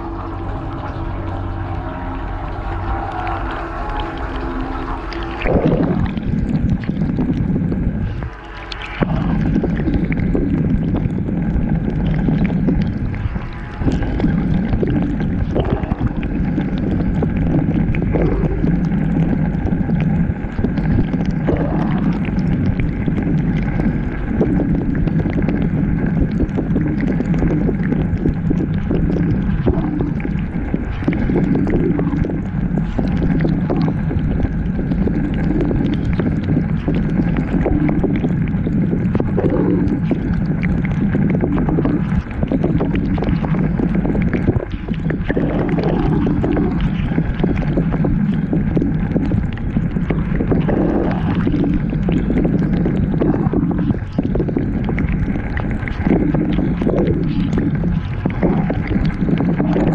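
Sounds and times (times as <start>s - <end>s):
pump motor hum: 0.0s - 59.9s
water spraying and sloshing: 0.0s - 59.9s.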